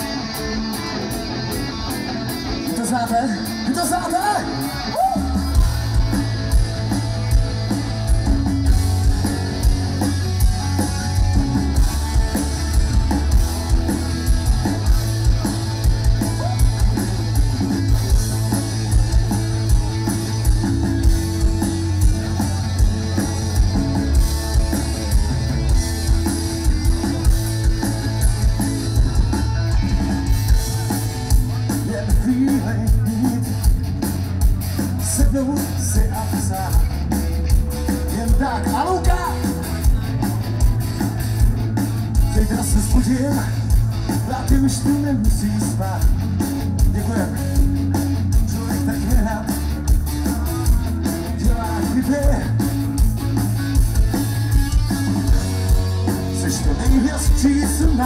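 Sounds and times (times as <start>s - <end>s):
bass guitar: 0.0s - 58.0s
distorted electric guitars: 0.0s - 58.0s
drum kit steady beat: 0.0s - 58.0s.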